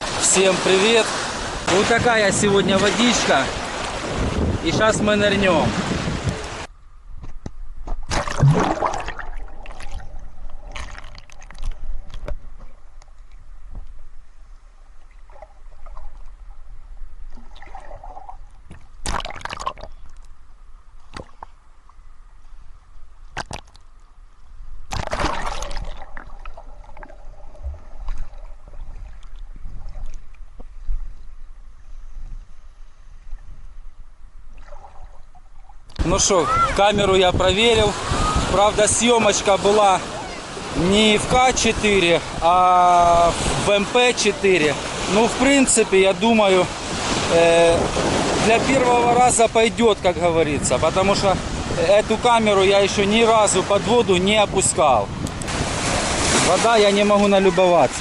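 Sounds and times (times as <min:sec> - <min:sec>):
water splashes: 0:00.0 - 0:06.7, 0:07.8 - 0:20.3, 0:21.0 - 0:22.0, 0:23.2 - 0:24.2, 0:24.8 - 0:31.6, 0:34.4 - 0:58.0.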